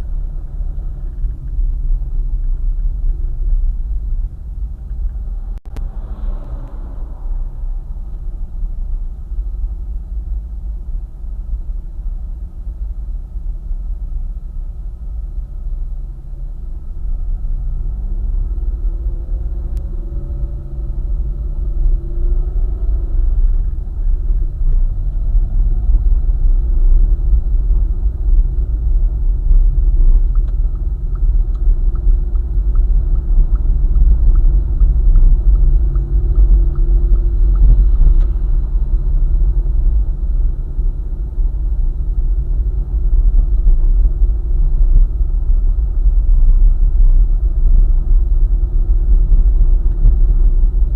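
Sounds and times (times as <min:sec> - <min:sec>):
car road and engine rumble: 0:00.0 - 0:50.9.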